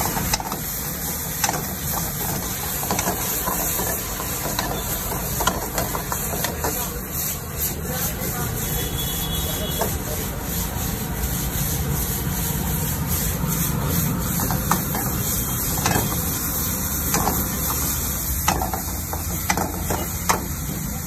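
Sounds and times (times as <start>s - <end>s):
food frying in a wok: 0.0s - 21.0s.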